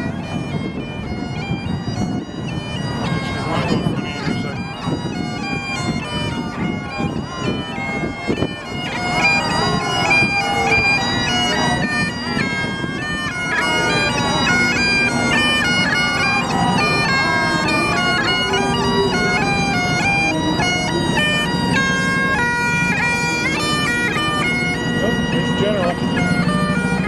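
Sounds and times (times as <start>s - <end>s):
bagpipes playing a tune: 0.0s - 27.0s.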